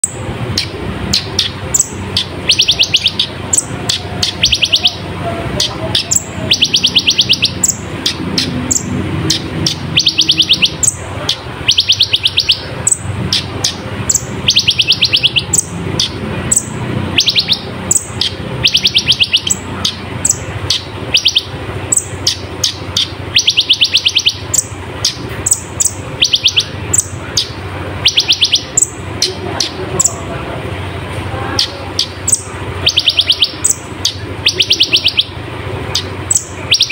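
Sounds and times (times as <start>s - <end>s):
bird high chirps: 0.0s - 30.3s, 31.6s - 36.9s
bird trilling: 0.0s - 36.9s.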